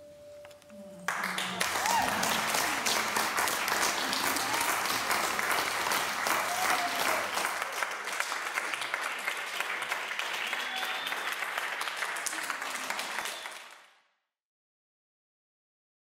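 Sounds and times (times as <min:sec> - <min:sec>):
audience applauding: 0:01.0 - 0:14.0.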